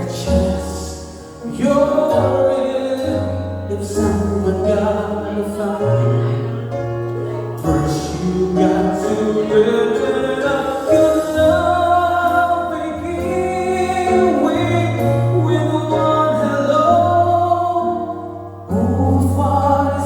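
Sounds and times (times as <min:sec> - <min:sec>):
steady bass: 0:00.0 - 0:20.0.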